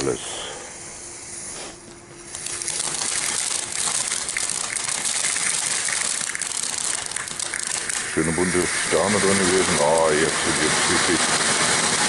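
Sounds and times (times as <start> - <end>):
firework fountain hissing and crackling: 0.0 - 12.0.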